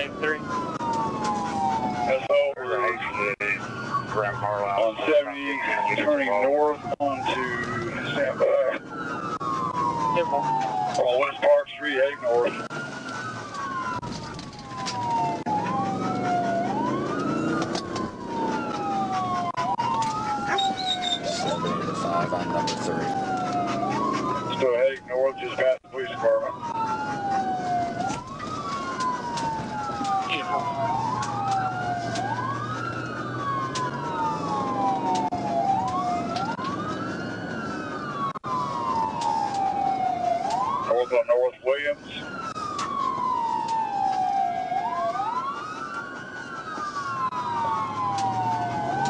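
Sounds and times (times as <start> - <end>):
car engine and road noise: 0.0 - 49.0
police siren wailing: 0.0 - 49.0.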